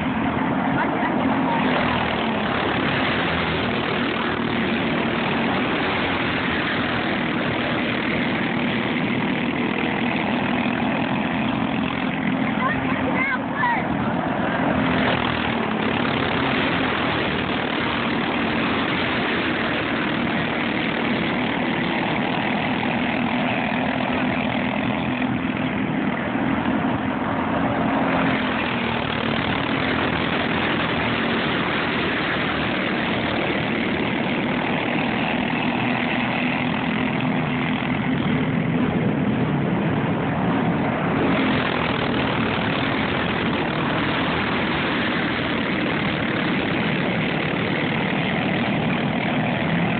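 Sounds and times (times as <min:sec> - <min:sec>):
go-kart engines droning: 0:00.0 - 0:49.9.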